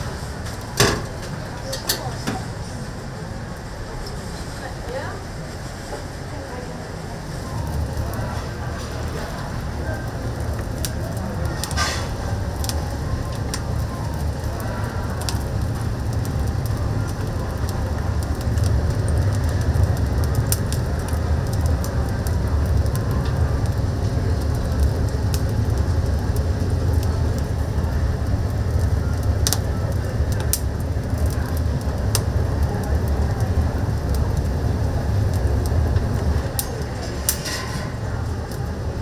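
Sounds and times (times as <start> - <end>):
firewood crackling pops: 0.0 - 2.4, 7.6 - 38.7
fire rumbling: 0.0 - 39.0.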